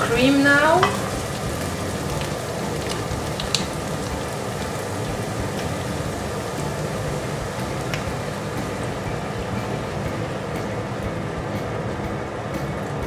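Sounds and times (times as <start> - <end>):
onion rings frying in oil: 0.0 - 13.0.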